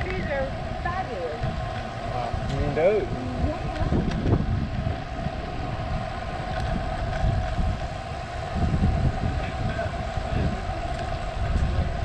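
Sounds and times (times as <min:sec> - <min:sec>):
faint steady hum: 0:00.0 - 0:12.0
tyres rumbling on road: 0:00.0 - 0:12.0
wind buffeting microphone: 0:00.0 - 0:12.0.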